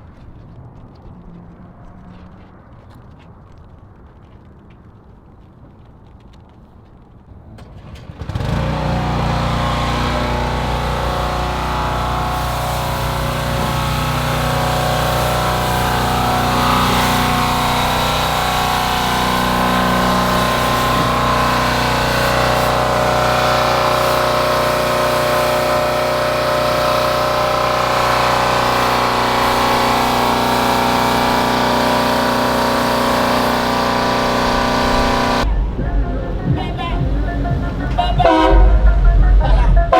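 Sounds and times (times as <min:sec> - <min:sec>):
vehicle engine running: 0:07.7 - 0:39.9.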